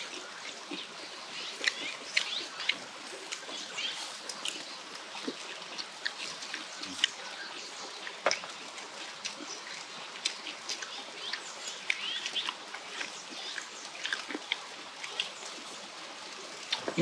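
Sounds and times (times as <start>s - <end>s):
birds chirping: 0.0s - 15.9s
flowing stream: 0.0s - 17.0s.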